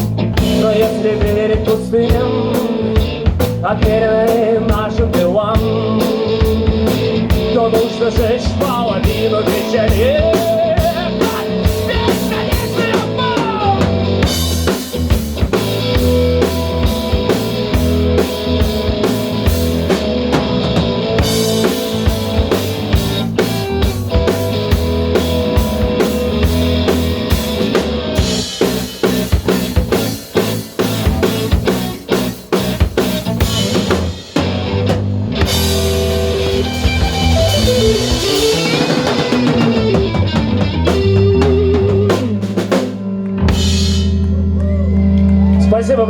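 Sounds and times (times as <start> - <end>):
rock band playing: 0.0 - 46.0
drum fills: 0.4 - 44.2.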